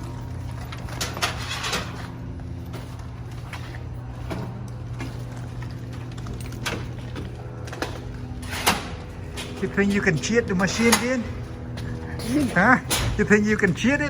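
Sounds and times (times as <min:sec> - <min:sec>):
knocks and rattles of handling: 0:00.0 - 0:14.0
vending machine humming: 0:00.0 - 0:14.0.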